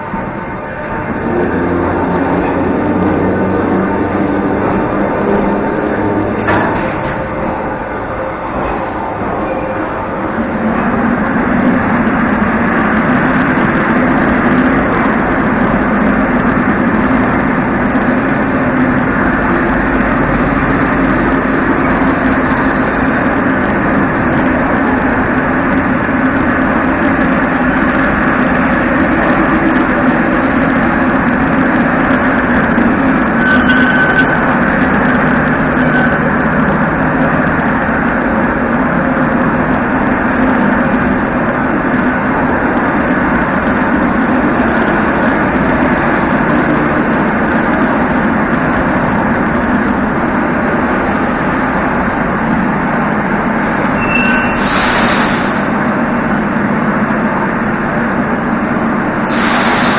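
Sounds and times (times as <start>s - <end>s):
train hum and rumble: 0.0s - 59.9s.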